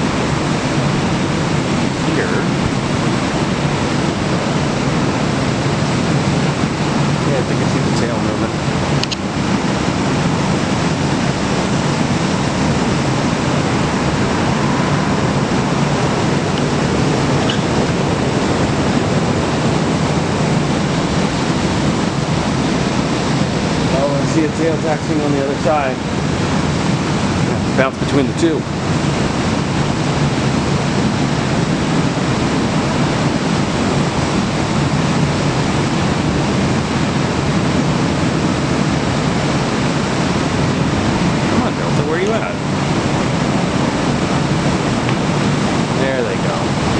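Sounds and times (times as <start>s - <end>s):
gusty wind buffeting microphone: 0.0s - 46.9s.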